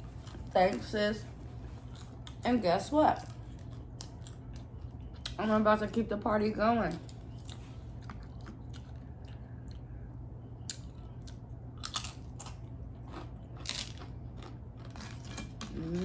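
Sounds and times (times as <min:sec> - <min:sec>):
chewing crunchy taco: 0:00.0 - 0:05.4, 0:06.8 - 0:16.0
low steady hum: 0:00.0 - 0:16.0.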